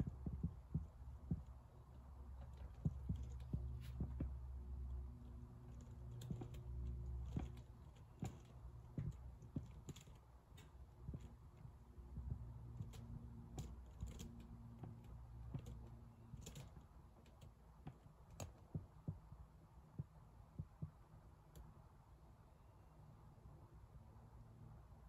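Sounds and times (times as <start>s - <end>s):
small clicks and ticks: 0.0s - 21.8s
faint room hum: 0.0s - 25.0s.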